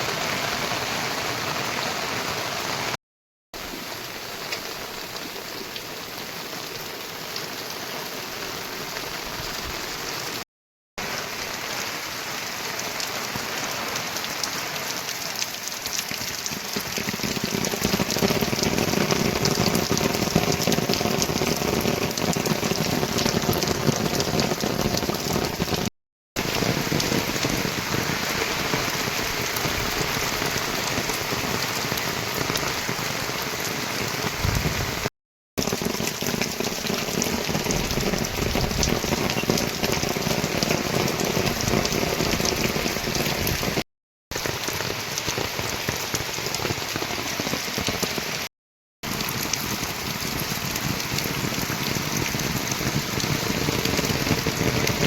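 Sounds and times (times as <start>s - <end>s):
heavy rain falling: 0.0s - 3.0s, 3.6s - 10.4s, 11.0s - 55.0s.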